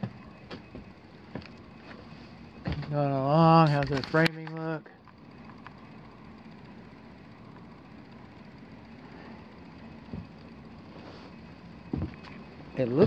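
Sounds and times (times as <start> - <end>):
air handler blowers humming: 0.0 - 13.0.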